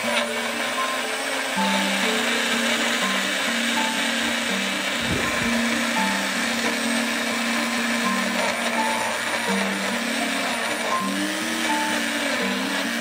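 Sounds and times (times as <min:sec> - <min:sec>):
background music: 0:00.0 - 0:13.0
blender motor chopping fruit: 0:00.0 - 0:13.0.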